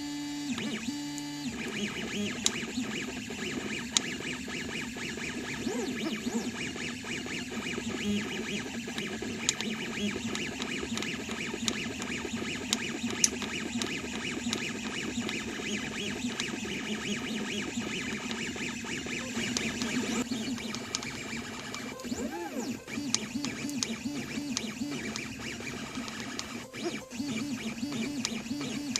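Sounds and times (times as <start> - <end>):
sharp printer clicks: 0.3 - 28.9
stepper motors whirring: 0.5 - 28.9.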